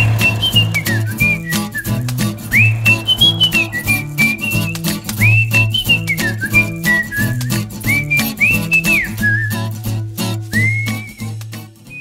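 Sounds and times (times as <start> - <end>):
whistled melody: 0.0 - 12.0.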